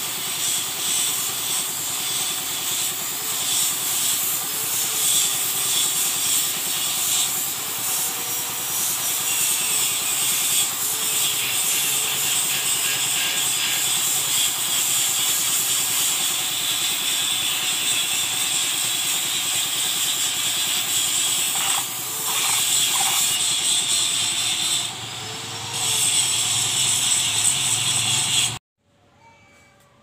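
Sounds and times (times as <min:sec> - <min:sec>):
paint spray gun hissing: 0:00.0 - 0:24.7.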